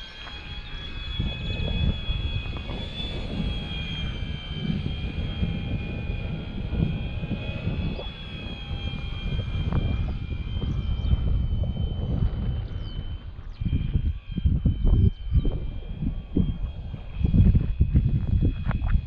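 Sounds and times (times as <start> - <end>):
low rumble: 0.0 - 19.0
model plane motor whine: 0.0 - 19.0.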